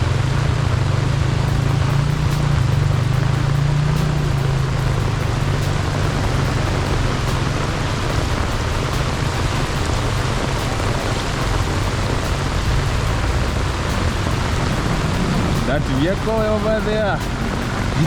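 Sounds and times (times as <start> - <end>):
heavy rain pouring: 0.0 - 18.0
low rumble: 0.0 - 18.0.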